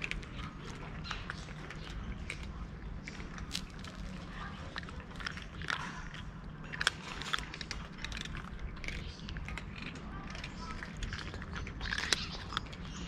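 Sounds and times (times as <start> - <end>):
cat crunching dry kibble: 0.0 - 13.0
low background hum: 0.0 - 13.0.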